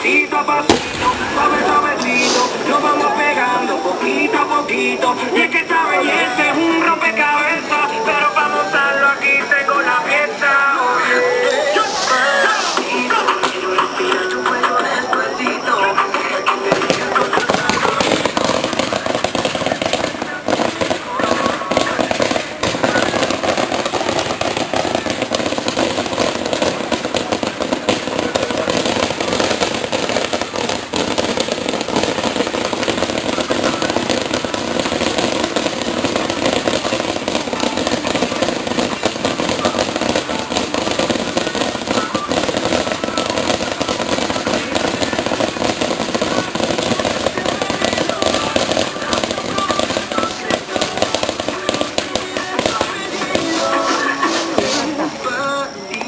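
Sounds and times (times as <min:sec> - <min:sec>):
fireworks crackling and bangs: 0:00.0 - 0:56.0.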